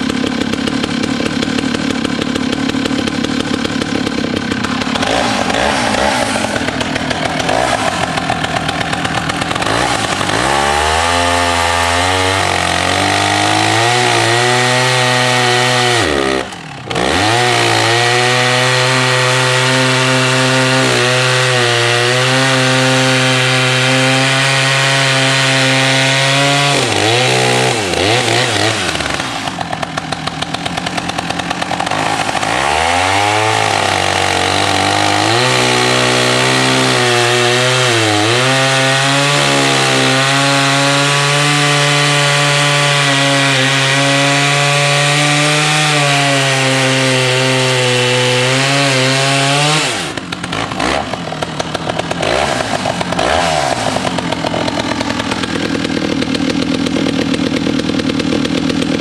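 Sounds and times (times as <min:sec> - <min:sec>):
chainsaw cutting through log: 0:00.0 - 0:59.0.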